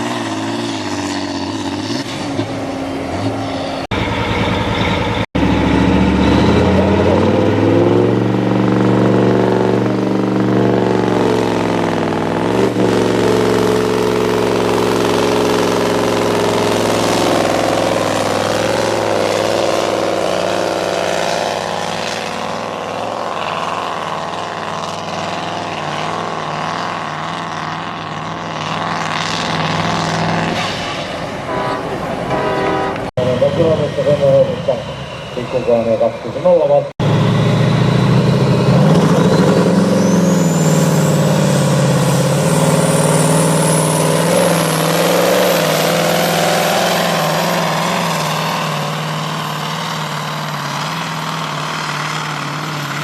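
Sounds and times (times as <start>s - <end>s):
tractor engine under full load: 0.0s - 35.5s, 36.4s - 53.0s.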